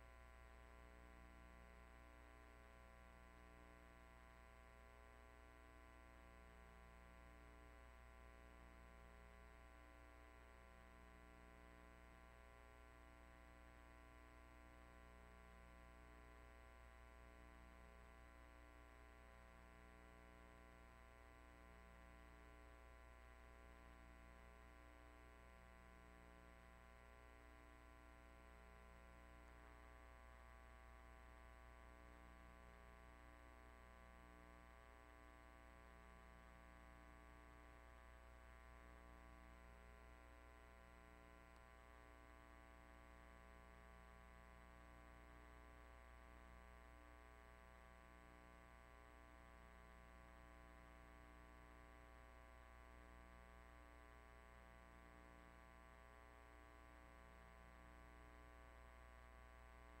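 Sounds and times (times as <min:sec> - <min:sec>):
faint mains hum: 0:00.0 - 1:00.0.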